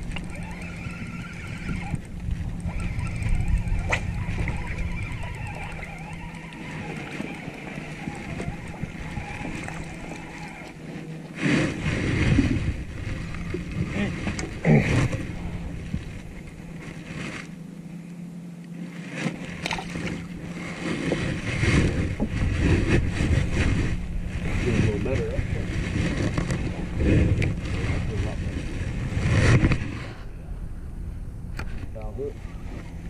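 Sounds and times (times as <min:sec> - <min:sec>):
wind buffeting microphone: 0:00.0 - 0:17.2, 0:19.6 - 0:33.0
electric trolling motor humming: 0:00.0 - 0:33.0.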